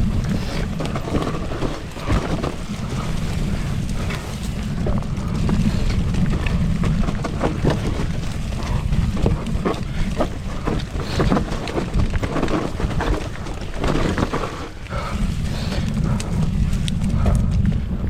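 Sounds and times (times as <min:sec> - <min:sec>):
bike rattling over rough trail: 0:00.0 - 0:18.0
wind rumble on microphone: 0:00.0 - 0:18.0.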